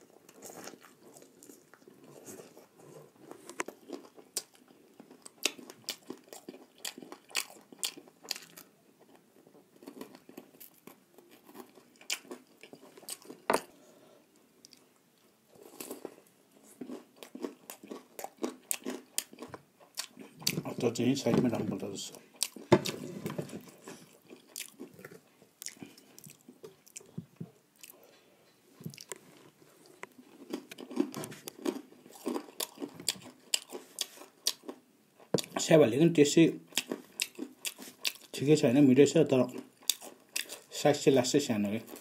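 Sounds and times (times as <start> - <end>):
crunchy chewing: 0.0 - 13.8, 15.5 - 20.8, 22.1 - 27.2, 28.8 - 35.6, 36.7 - 38.4, 39.4 - 40.8.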